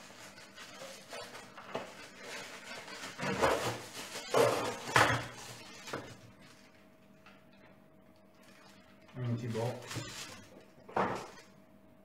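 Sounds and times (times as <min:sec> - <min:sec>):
cardboard rustling and scraping: 0:00.0 - 0:06.8, 0:08.4 - 0:11.5.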